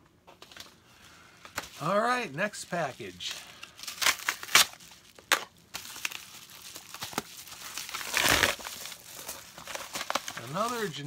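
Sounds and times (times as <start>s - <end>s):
paper envelope crinkling: 1.4s - 11.0s.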